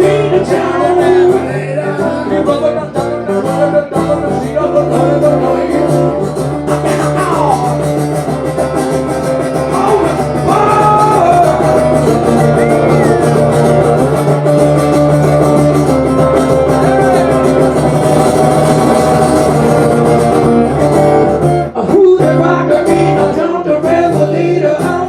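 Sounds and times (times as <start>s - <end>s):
blues guitar playing: 0.0s - 25.0s.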